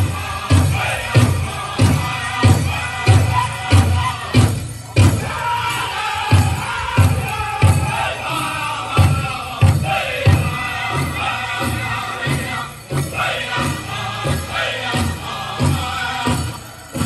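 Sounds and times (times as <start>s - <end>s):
bells jingling: 0.0s - 17.0s
big drum steady beat: 0.0s - 17.0s
drum group singing: 0.0s - 17.0s.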